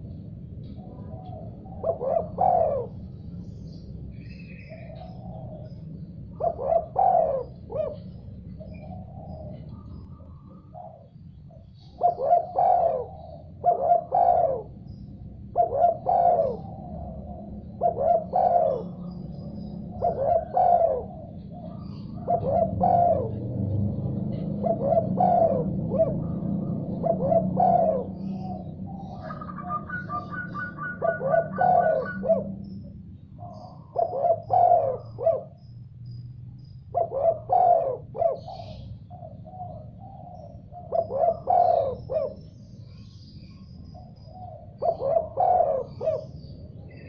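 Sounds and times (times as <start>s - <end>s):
dove cooing: 0.0s - 47.0s.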